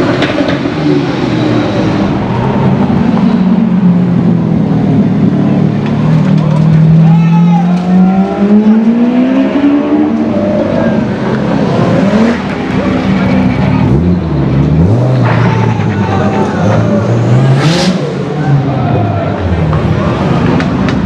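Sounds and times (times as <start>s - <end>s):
car engines revving in a tunnel: 0.0s - 21.0s.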